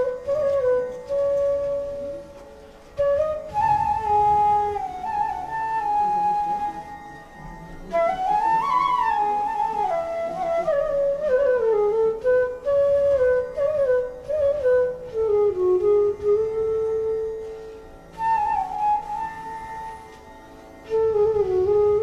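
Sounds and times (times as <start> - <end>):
bamboo flute melody: 0.0 - 22.0.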